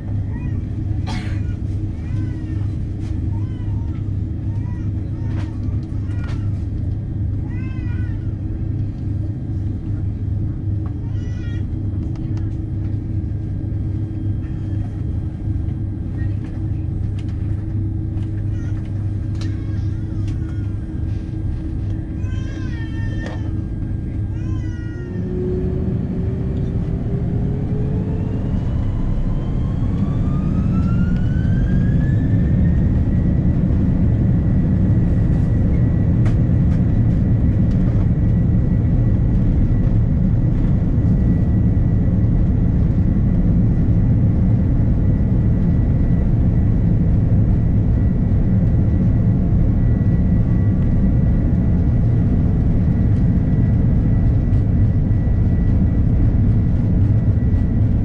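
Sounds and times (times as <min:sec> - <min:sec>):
jet engine whine: 0:00.0 - 0:58.0
loud rumble of takeoff roll: 0:00.0 - 0:58.0.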